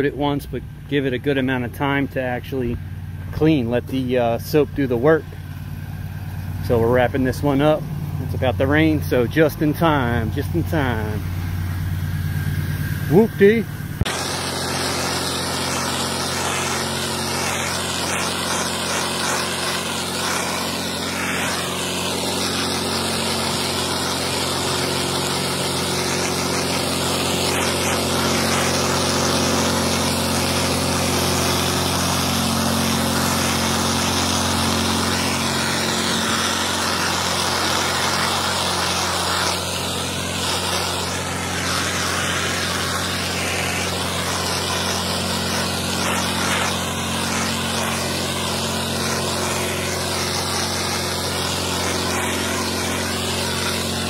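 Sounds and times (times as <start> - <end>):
pressure washer engine running: 0.0 - 54.0
water jet hissing on concrete: 3.4 - 54.0.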